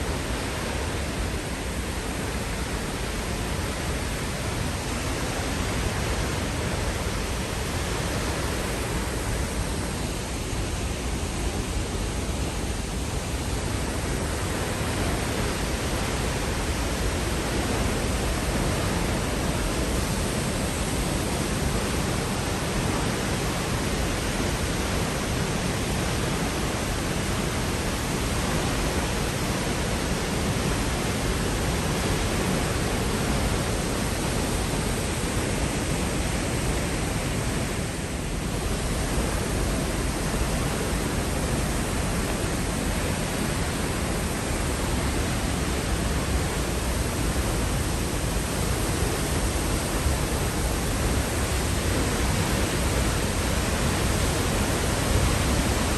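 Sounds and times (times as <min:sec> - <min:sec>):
waterfall roar: 0:00.0 - 0:55.9.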